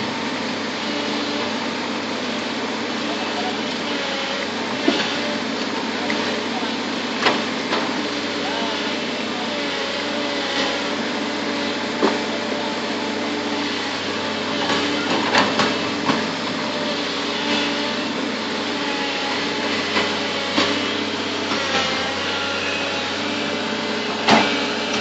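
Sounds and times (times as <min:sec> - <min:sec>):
bulldozer motor running: 0:00.0 - 0:25.0.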